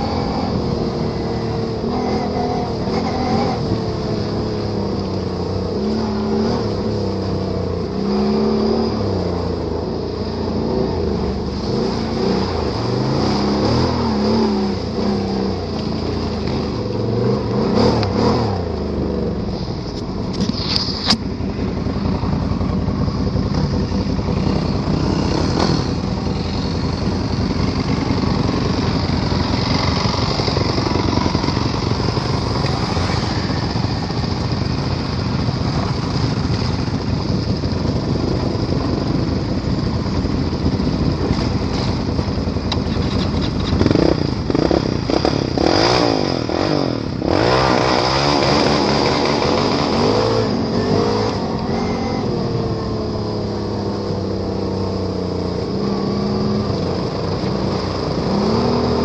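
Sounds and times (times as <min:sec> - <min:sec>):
atv engine rumbling and revving: 0:00.0 - 0:59.0.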